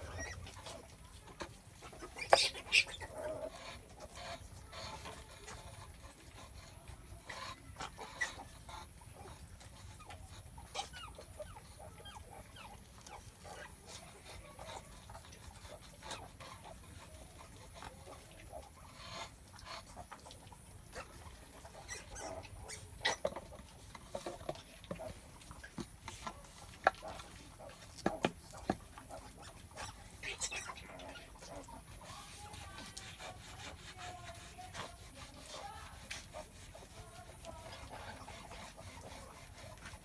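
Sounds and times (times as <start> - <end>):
pigs grunting and squeaking: 0.0 - 40.0.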